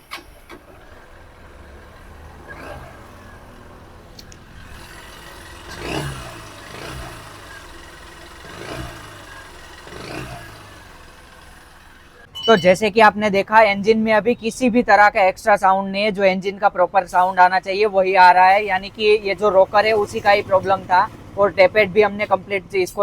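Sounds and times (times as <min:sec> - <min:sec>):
motorcycle engine revving: 0:00.0 - 0:12.8, 0:17.1 - 0:23.0.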